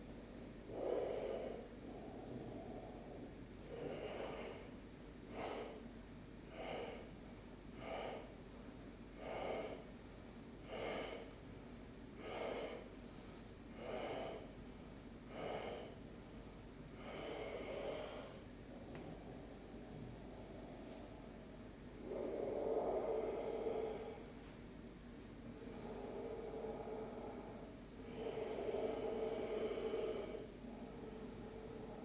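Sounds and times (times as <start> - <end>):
person breathing: 0.6 - 8.4, 9.1 - 10.0, 10.6 - 32.0.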